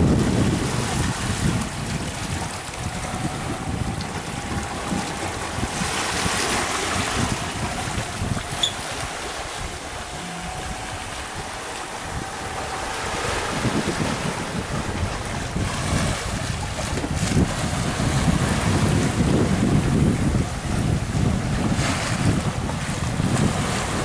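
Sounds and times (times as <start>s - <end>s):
water rushing along hull: 0.0s - 24.0s
wind noise on microphone: 0.0s - 24.0s.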